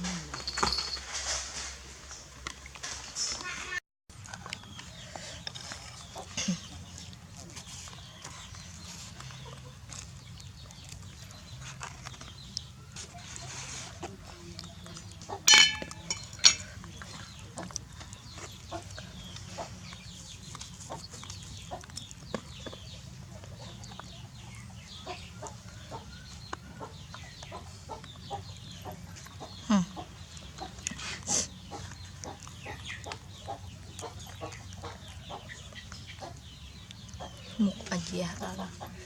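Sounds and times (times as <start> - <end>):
chickens clucking and peeping: 4.2 - 39.0.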